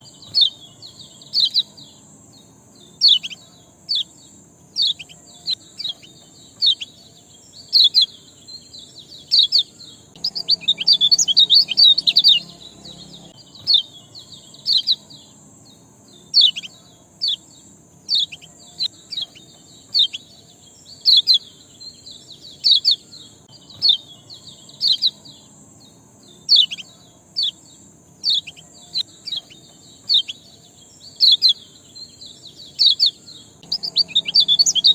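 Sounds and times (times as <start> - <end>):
songbird chirping: 0.0 - 34.9.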